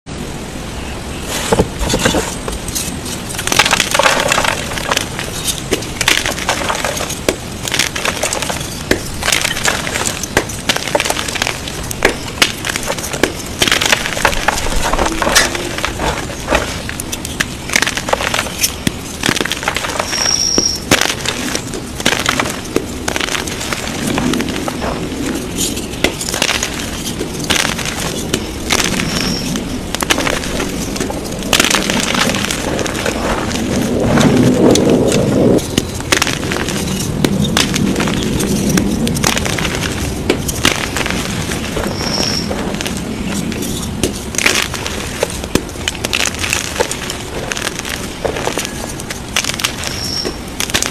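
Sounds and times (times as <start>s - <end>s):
chalk crunching and snapping: 1.3s - 50.9s.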